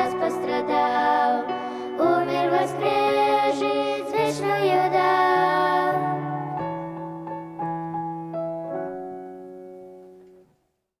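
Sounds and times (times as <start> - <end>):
keyboard chords: 0.0 - 10.5.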